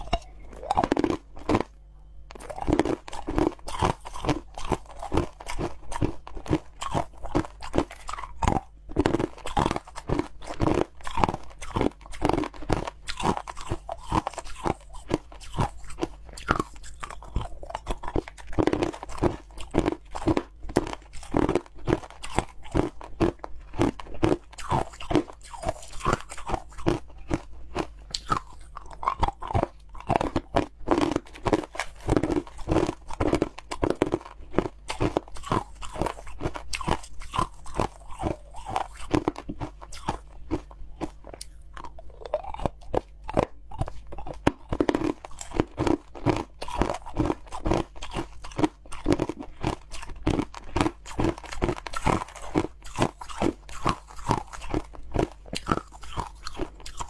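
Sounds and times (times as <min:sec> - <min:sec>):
person crunching ice: 0:00.0 - 0:01.7, 0:02.4 - 0:57.0.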